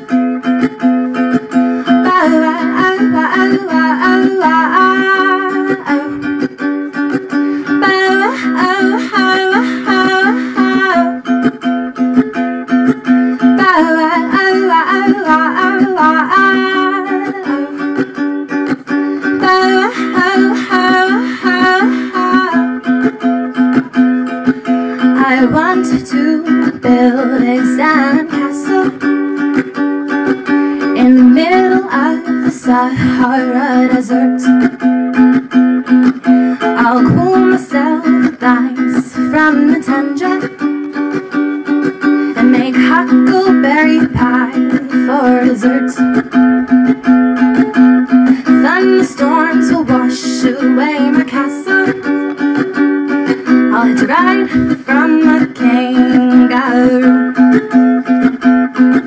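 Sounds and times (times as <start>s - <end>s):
plucked acoustic string instrument: 0.0s - 59.0s
woman singing folk song: 0.0s - 59.0s.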